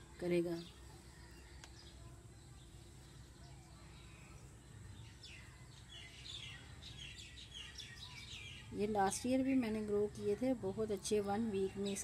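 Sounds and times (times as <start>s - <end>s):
faint birds chirping: 0.0s - 12.0s
outdoor background noise: 0.0s - 12.0s.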